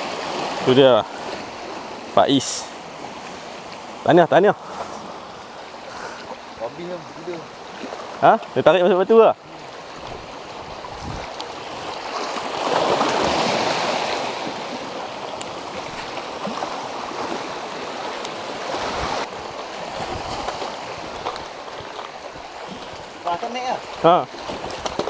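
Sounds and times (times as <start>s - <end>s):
waves lapping over boulders: 0.0s - 25.0s.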